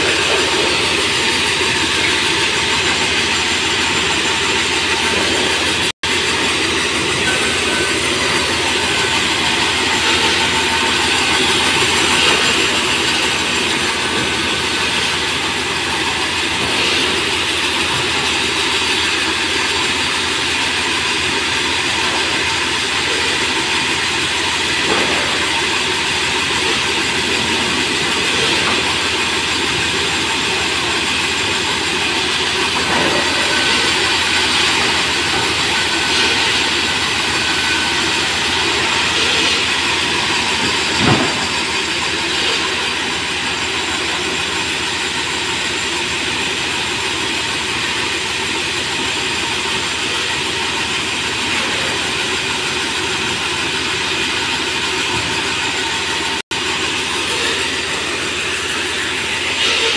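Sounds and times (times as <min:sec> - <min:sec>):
sawmill machinery din: 0:00.0 - 0:59.9.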